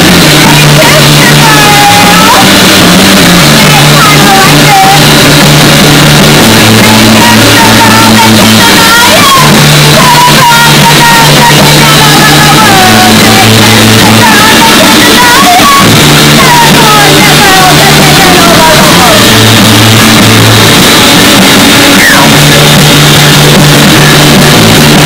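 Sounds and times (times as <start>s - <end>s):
woman singing: 0.0s - 23.4s.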